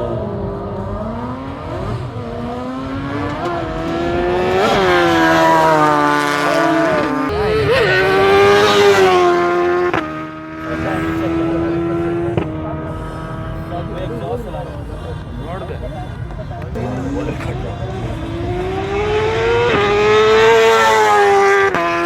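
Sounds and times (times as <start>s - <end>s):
superbike engines revving: 0.0s - 22.0s.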